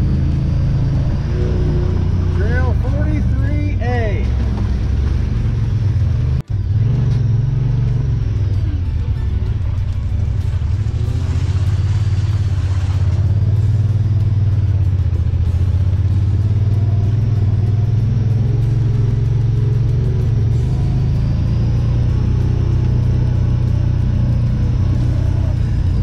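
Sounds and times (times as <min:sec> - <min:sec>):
utility vehicle engine droning: 0:00.0 - 0:26.0.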